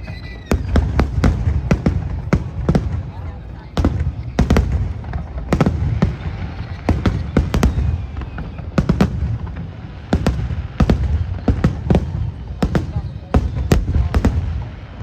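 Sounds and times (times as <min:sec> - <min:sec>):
fireworks bangs: 0:00.0 - 0:15.0
low rumble of fireworks: 0:00.0 - 0:15.0.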